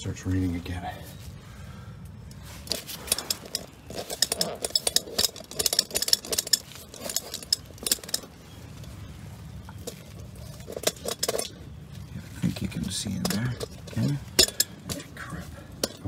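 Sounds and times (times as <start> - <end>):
metal tools clinking: 2.4 - 9.0, 9.6 - 16.0.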